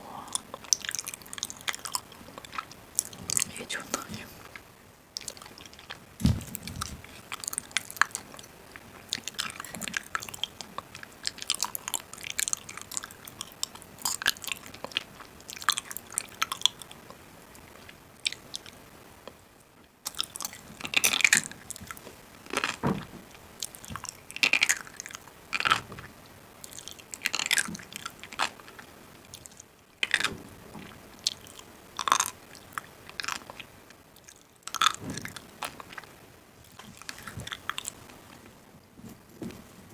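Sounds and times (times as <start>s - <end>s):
person chewing crunchy food: 0.0s - 19.4s, 20.0s - 38.5s.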